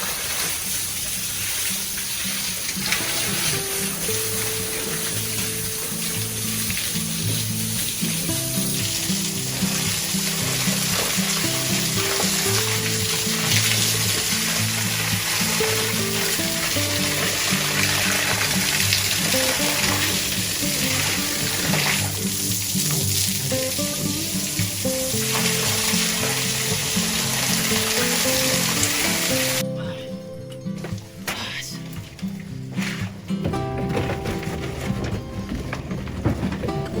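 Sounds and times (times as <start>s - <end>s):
food sizzling in a pan: 0.0s - 29.7s
soft background music: 0.2s - 37.0s.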